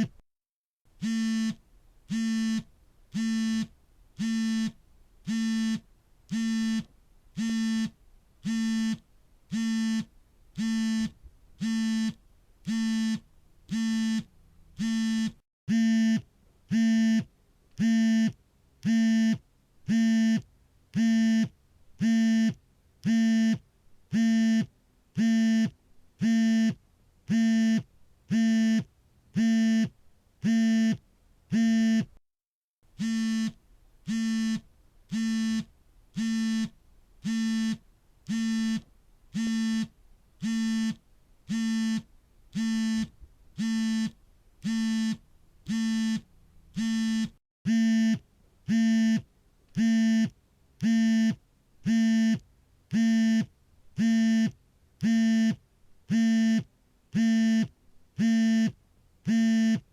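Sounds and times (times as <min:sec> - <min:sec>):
mobile phone vibrating: 0:00.0 - 0:00.2, 0:01.0 - 0:32.2, 0:33.0 - 0:59.9.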